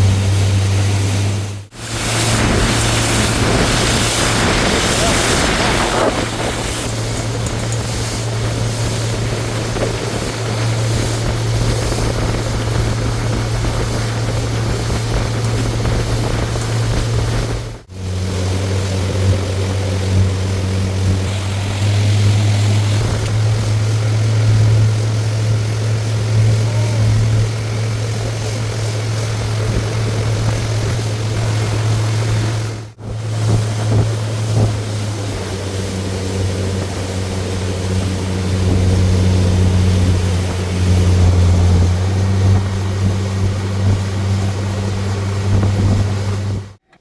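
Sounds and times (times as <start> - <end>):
wind noise: 0.0 - 46.8
water noise: 0.0 - 46.9
motorboat engine droning: 0.0 - 47.0.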